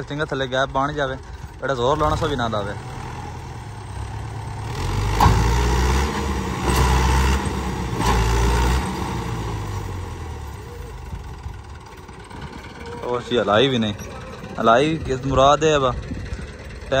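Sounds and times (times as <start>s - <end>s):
tractor engine under heavy load: 0.0s - 17.0s.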